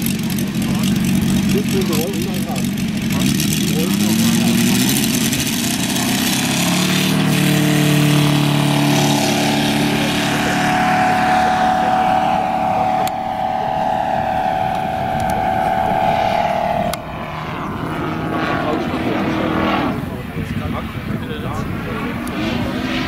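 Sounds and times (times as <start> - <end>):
model airplane radial engine running: 0.0 - 23.0.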